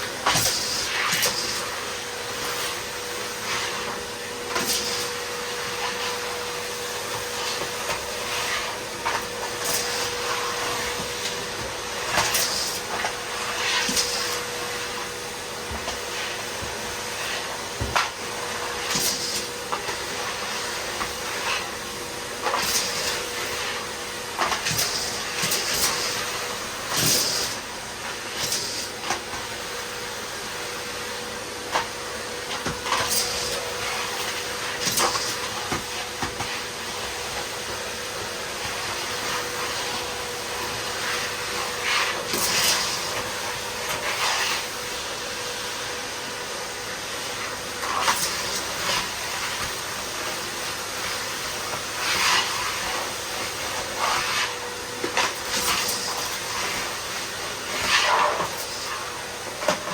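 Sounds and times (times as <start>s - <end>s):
vacuum cleaner motor hum: 0.0s - 59.9s.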